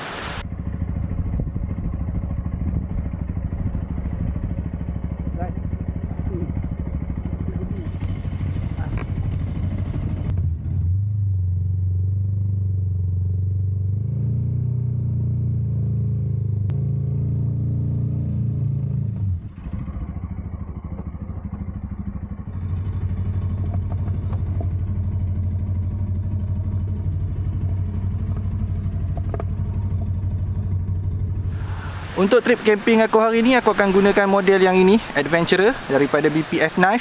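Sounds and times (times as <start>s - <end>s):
motorcycle engine running: 0.0s - 10.8s, 14.8s - 37.0s.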